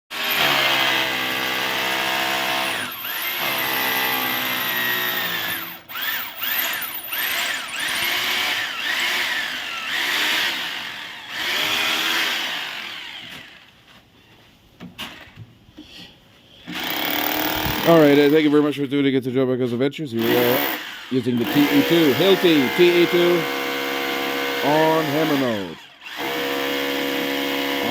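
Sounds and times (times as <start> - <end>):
rotary hammer drill drilling: 0.1 - 13.7, 16.7 - 18.6, 20.2 - 27.9.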